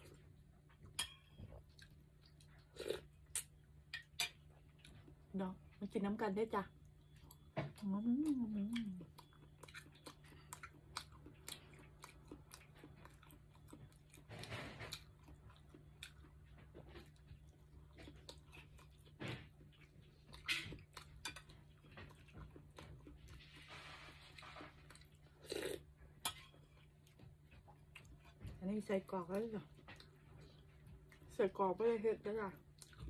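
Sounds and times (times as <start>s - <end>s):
chewing crunchy meatballs: 0.0s - 5.8s, 6.6s - 33.0s.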